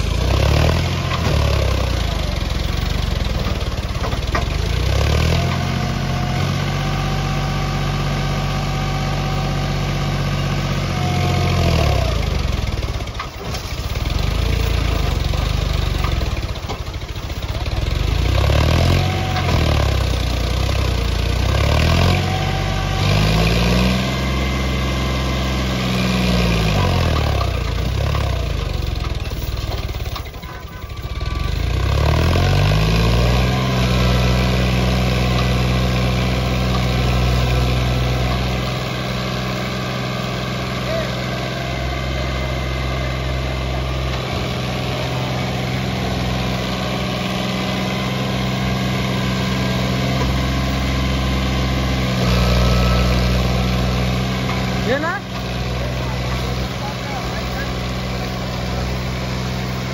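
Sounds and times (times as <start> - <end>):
diesel tractor engine revving: 0.0 - 59.9.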